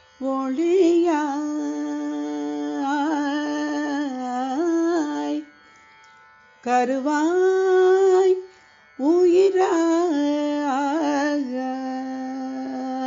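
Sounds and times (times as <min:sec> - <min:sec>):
woman singing: 0:00.2 - 0:05.5, 0:06.6 - 0:13.0.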